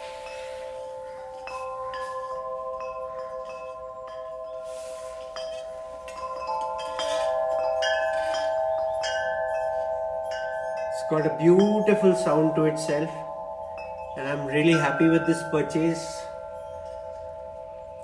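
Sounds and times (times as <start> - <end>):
metal wind chime ringing: 0.0 - 18.0.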